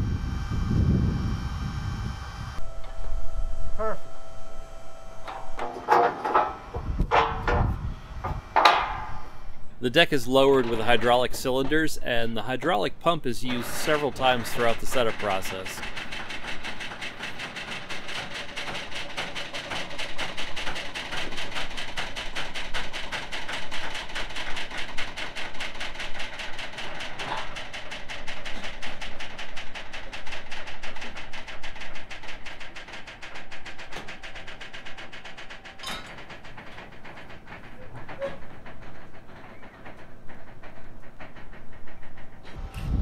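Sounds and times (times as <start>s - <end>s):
hydraulic pump pulsing: 0.0s - 11.9s, 13.0s - 43.0s.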